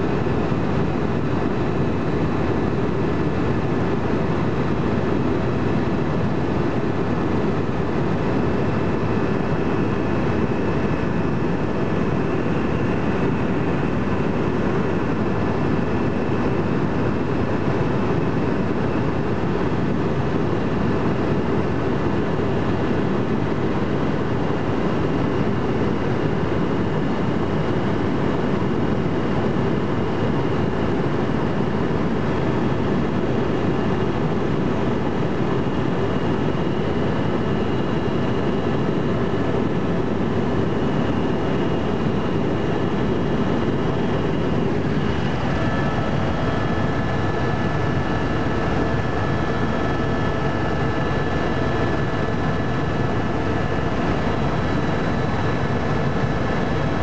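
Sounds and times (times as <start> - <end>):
faint steady whine: 0.0 - 57.0
helicopter rotor and engine rumble: 0.0 - 57.0.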